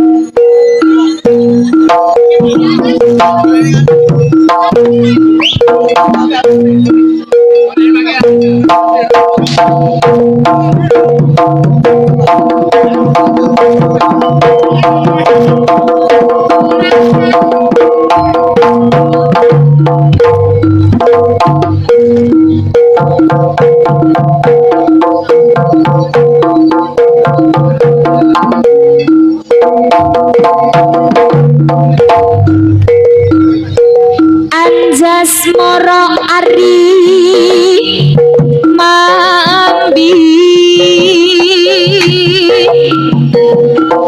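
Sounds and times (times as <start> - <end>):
gong-chime and metallophone notes: 0.0 - 40.3, 42.6 - 44.0
hand drums fast rhythm: 0.0 - 44.0.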